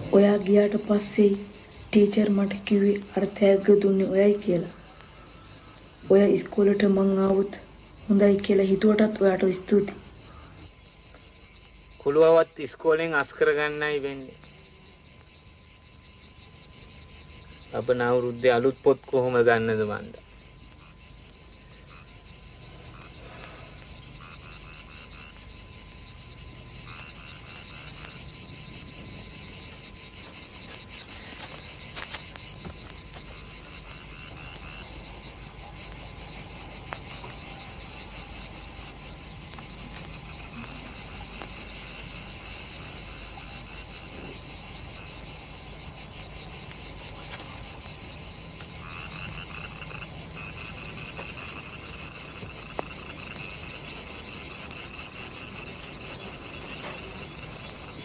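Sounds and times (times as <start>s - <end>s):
frogs and insects trilling: 0.0s - 58.0s.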